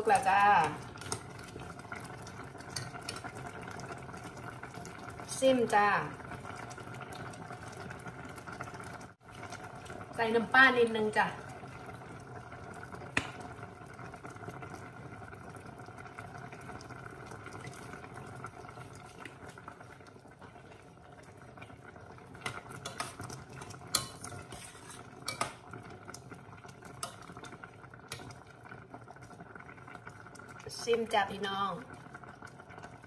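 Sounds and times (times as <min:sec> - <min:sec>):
curry bubbling in pot: 0:00.0 - 0:33.0.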